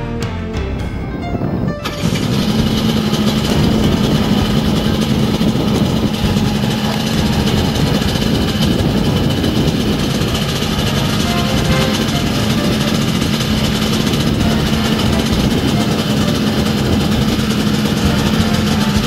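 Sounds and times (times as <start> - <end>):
helicopter hovering: 0.8 - 19.0.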